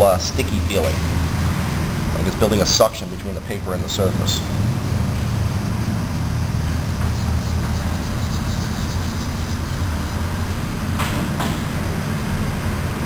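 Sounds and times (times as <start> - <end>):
low machine rumble: 0.0 - 13.0.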